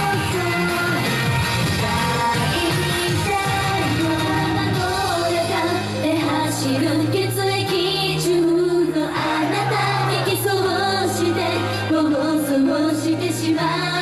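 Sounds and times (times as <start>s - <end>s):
pop backing track: 0.0s - 14.0s
women singing live: 0.0s - 14.0s.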